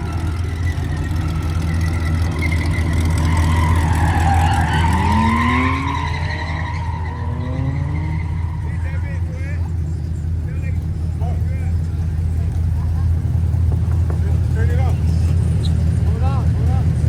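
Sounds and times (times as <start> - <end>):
car engine revving: 0.0 - 17.0
low road rumble: 0.0 - 17.0.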